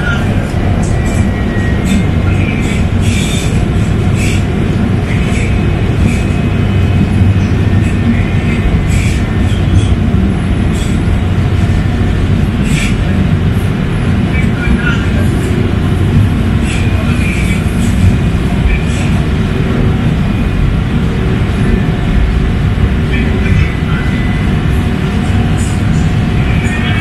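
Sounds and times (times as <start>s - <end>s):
light rail car rumble: 0.0s - 27.0s.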